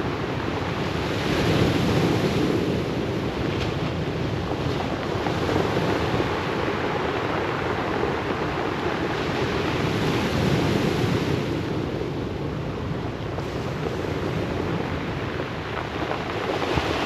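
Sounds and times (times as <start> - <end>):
waves washing on pebble beach: 0.1 - 17.0.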